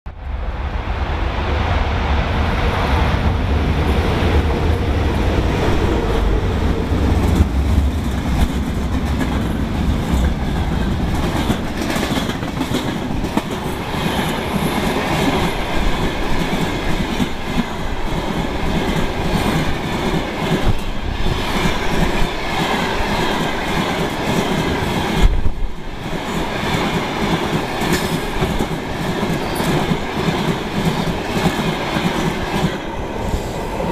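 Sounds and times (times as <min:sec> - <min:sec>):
freight train wheels clattering: 0:05.5 - 0:32.9.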